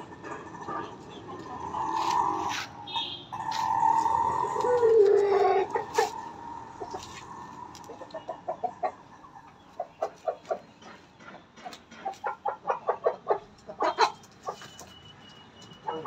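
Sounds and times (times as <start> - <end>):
rooster clucking: 0.0 - 15.0.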